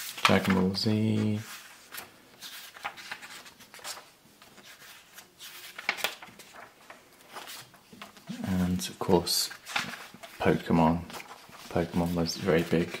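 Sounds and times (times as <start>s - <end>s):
magazine pages rustling: 0.0s - 13.0s.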